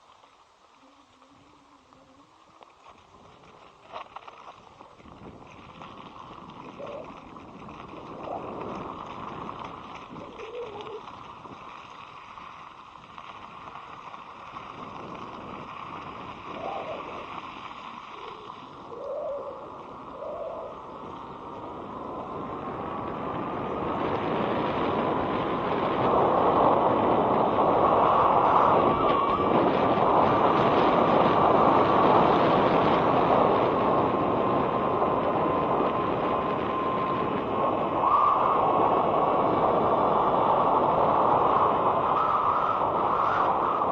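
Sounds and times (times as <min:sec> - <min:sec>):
faint high whine: 0:00.0 - 0:43.9
rushing wind on microphone: 0:00.0 - 0:43.9.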